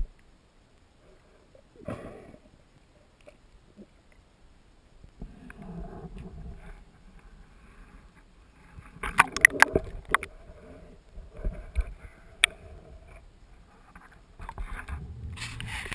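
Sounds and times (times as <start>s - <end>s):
muffled underwater water movement: 0.0s - 15.9s.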